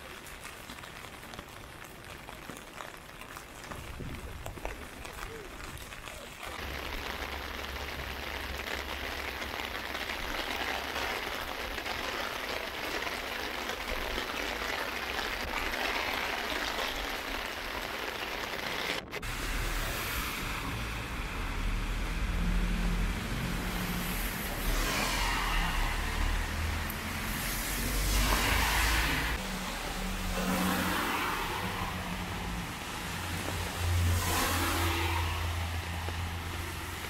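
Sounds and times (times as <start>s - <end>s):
heavy rain on pavement: 0.0s - 37.0s.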